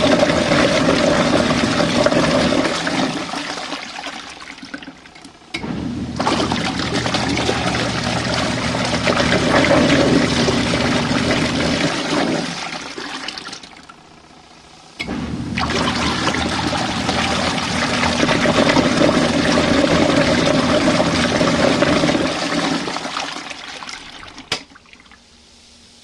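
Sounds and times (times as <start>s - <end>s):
washing machine filling with water: 0.0s - 25.4s.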